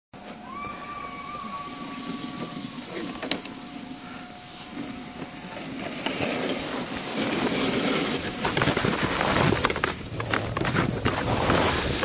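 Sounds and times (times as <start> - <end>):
sled scraping over snow: 0.2 - 12.0.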